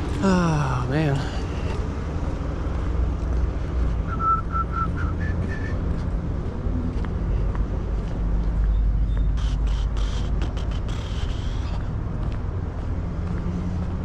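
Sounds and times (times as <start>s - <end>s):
vehicle running: 0.0s - 14.0s.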